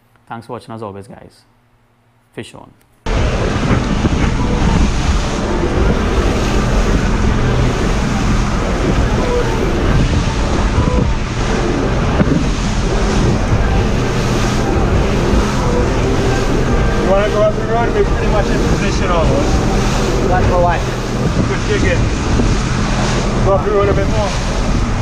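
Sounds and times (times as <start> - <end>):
boat rushing through rough sea: 3.1 - 25.0
faint engine hum: 3.1 - 25.0
wind buffeting microphone: 3.1 - 25.0.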